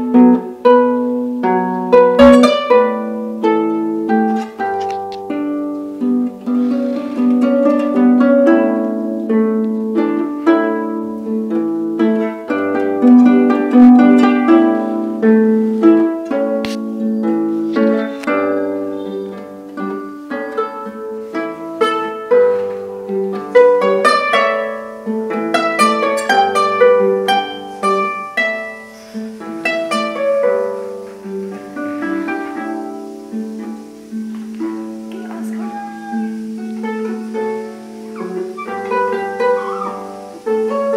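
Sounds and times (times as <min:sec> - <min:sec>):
harp plucked: 0:00.0 - 0:40.9.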